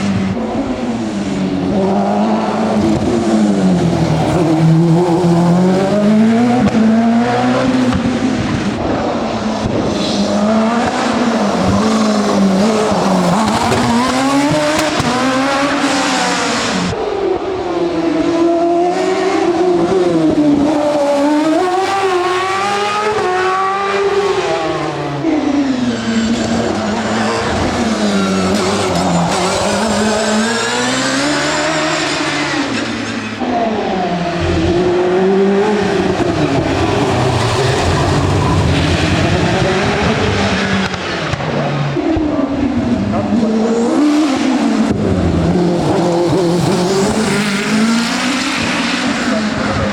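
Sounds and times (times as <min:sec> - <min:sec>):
racing car engine accelerating: 0:00.0 - 0:49.9.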